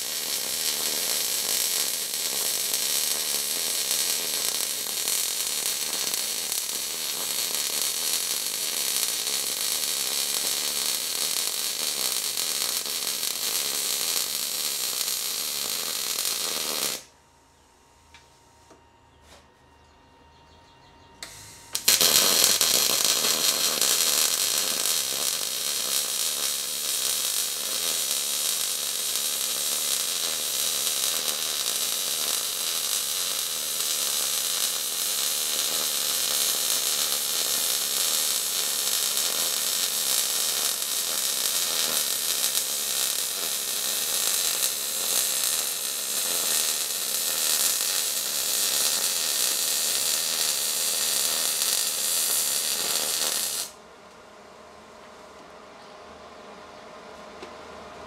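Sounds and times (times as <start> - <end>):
welding arc hissing: 0.0 - 17.1, 21.2 - 53.8.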